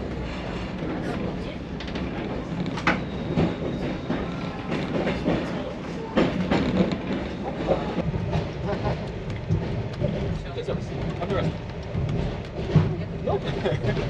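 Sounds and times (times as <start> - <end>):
train rumbling on rails: 0.0 - 14.0
wheels clacking over rail joints: 0.1 - 14.0.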